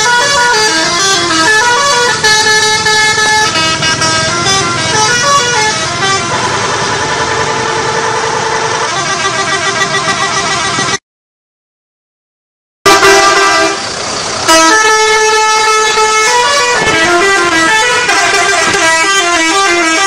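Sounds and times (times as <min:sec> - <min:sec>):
bus horns playing a tune: 0:00.0 - 0:11.0, 0:12.9 - 0:20.0.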